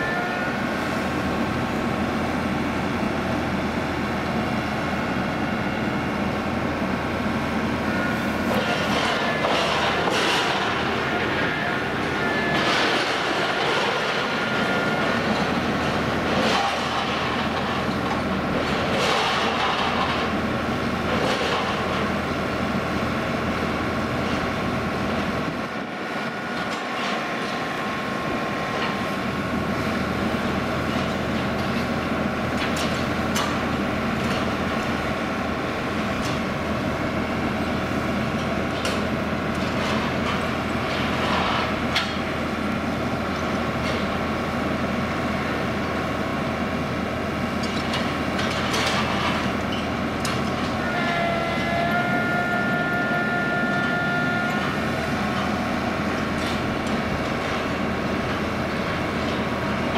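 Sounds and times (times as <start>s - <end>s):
machinery drone: 0.0s - 59.9s.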